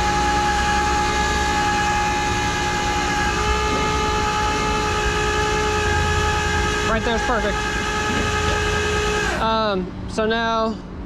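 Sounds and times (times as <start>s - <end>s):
hydraulic whining tones: 0.0s - 9.9s
tow truck engine drone: 0.0s - 11.0s.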